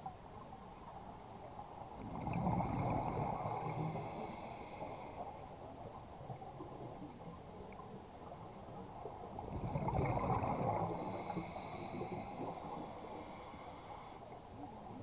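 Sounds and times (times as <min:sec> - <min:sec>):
underwater bubbles gurgling: 0:00.0 - 0:15.0.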